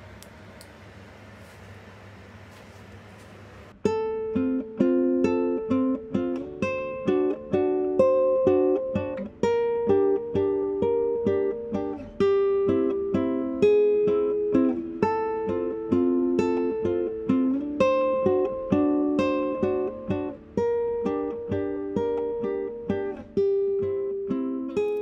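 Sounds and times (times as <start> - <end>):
plucked string tune: 3.8 - 25.0.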